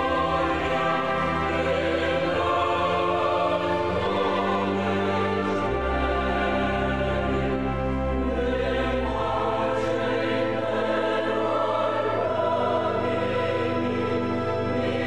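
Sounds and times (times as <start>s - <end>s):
choir singing held chords: 0.0s - 15.0s
orchestral backing: 0.0s - 15.0s.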